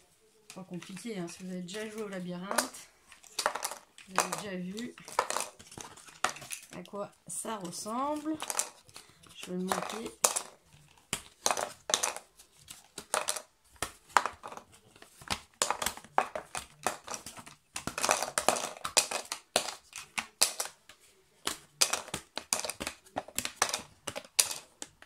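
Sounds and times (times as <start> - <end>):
cardboard tiles clicking: 0.5 - 25.0.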